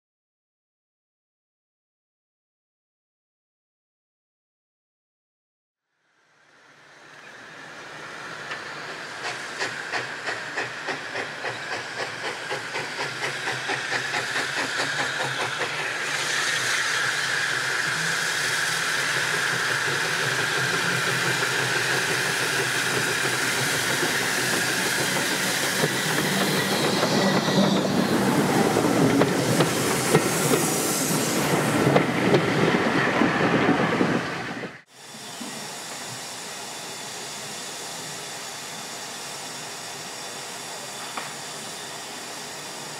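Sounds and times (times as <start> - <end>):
steam hissing: 6.6 - 42.9
steam locomotive exhaust beats: 6.7 - 42.9.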